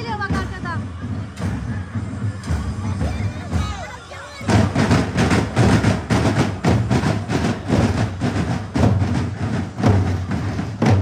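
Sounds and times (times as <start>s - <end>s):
marching drum corps: 0.0s - 11.0s.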